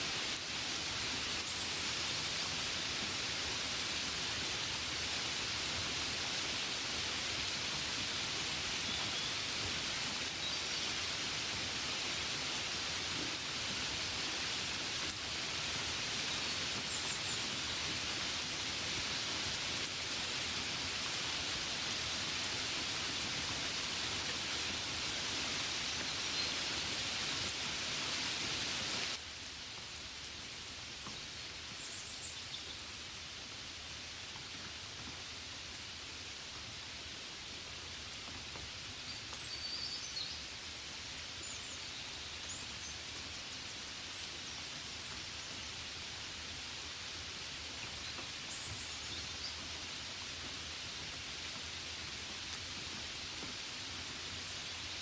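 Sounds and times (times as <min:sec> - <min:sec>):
gentle rain: 0:00.0 - 0:55.0.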